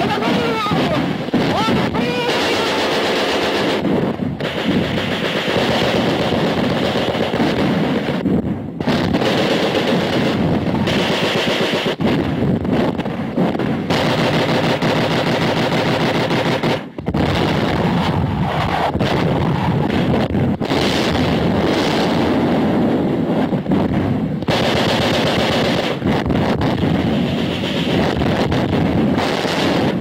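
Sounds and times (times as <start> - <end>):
machine-gun fire: 0.0 - 18.1, 19.0 - 22.8, 23.7 - 30.0
rifle shots: 0.0 - 18.1, 18.9 - 22.6, 23.6 - 30.0.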